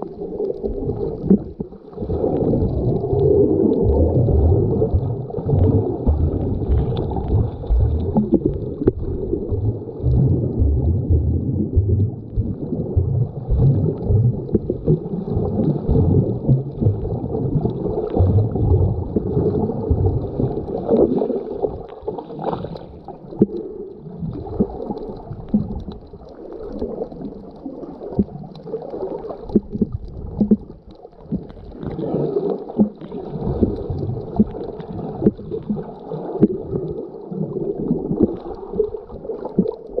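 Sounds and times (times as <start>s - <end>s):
underwater gurgles: 0.0s - 40.0s
underwater rumble of moving water: 0.0s - 40.0s.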